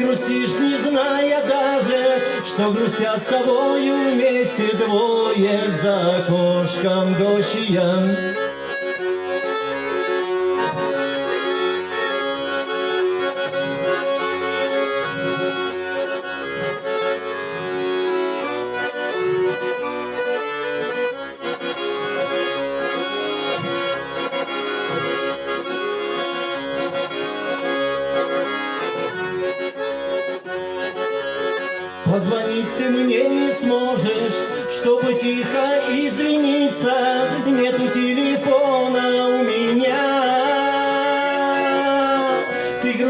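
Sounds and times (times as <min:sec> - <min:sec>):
accordion playing: 0:00.0 - 0:43.0.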